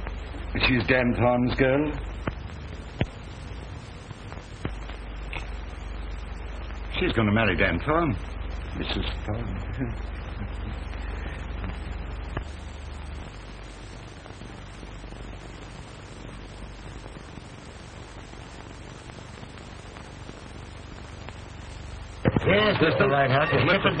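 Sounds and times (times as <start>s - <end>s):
low hum: 0.0s - 23.9s
optical soundtrack hiss: 0.0s - 24.0s.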